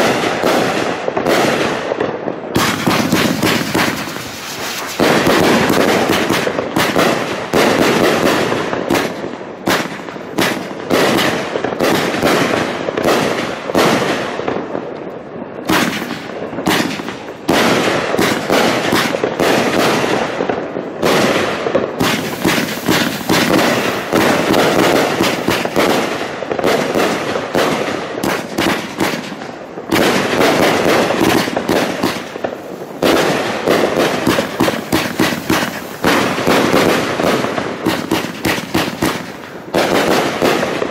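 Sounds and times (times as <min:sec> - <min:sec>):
fireworks launching and bursting: 0:00.0 - 0:40.9.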